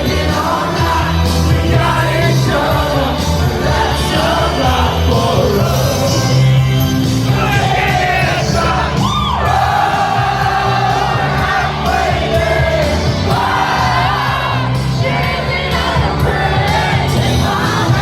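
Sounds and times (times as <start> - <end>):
crowd singing and shouting: 0.0 - 18.0
pop music beat and bass: 0.0 - 18.0.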